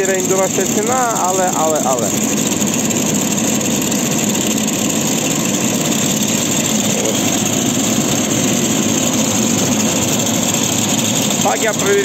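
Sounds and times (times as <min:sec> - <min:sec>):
two-stroke chainsaw idling: 0:00.0 - 0:12.0.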